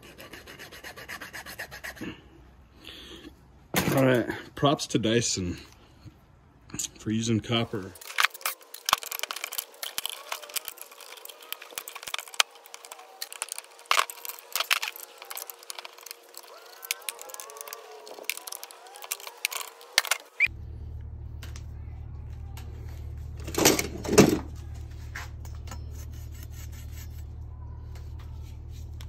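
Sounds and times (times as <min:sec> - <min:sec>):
steady low hum: 0:04.3 - 0:29.0.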